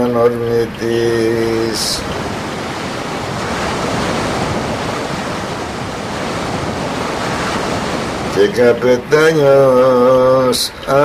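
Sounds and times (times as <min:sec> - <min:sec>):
sea water rushing along hull: 0:00.0 - 0:11.0
wind: 0:00.0 - 0:11.0.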